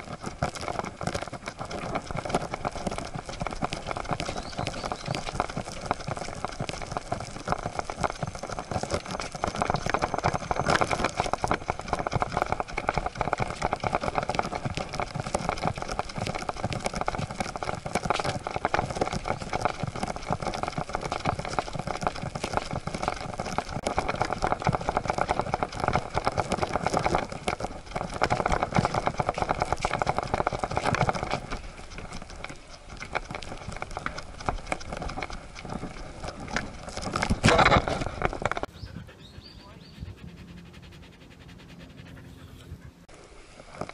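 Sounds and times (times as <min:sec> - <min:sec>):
dog paws pattering on wood: 0:00.0 - 0:42.6.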